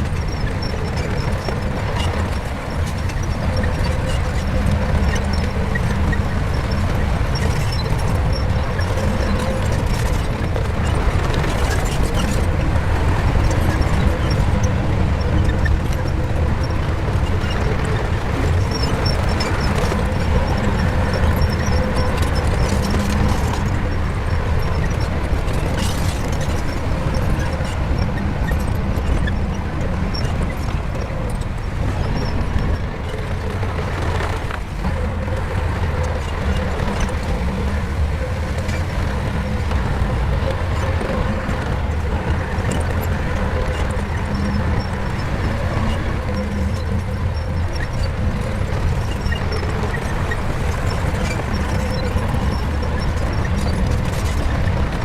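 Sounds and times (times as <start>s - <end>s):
bulldozer diesel engine running: 0.0s - 55.0s
scattered clicks and knocks: 0.0s - 55.0s.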